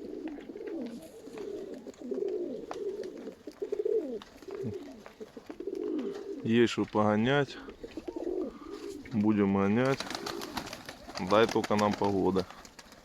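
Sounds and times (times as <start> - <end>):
pigeons cooing: 0.0 - 6.6, 7.3 - 13.0.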